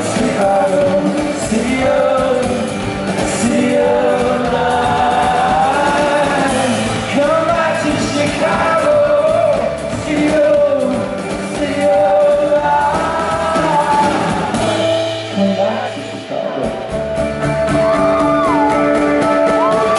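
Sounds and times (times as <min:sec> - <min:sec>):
live band music: 0:00.0 - 0:19.9
steady bass: 0:00.0 - 0:19.9.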